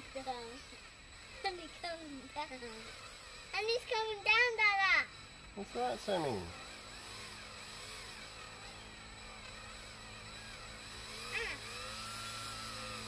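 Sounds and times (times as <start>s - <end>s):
power drill humming: 0.0s - 13.0s.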